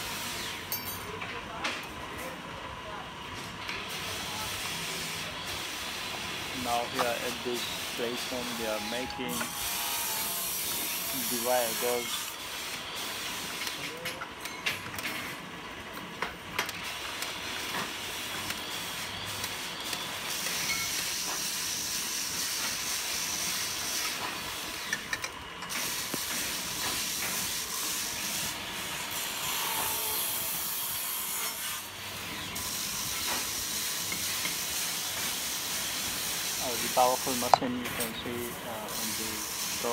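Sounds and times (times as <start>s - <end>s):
workshop hiss: 0.0s - 39.9s.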